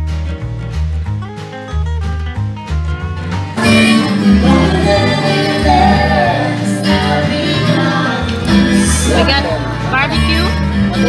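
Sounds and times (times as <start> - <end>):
bass line: 0.0 - 11.0
plucked guitar music: 0.0 - 11.0.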